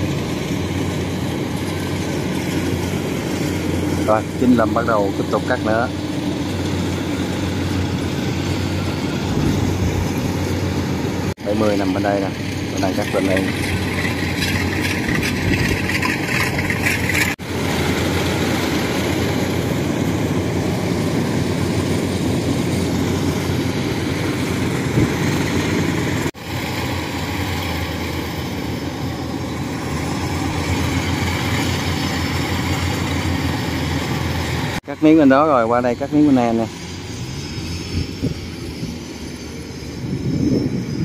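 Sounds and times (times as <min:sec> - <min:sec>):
combine harvester engine running: 0:00.0 - 0:41.0.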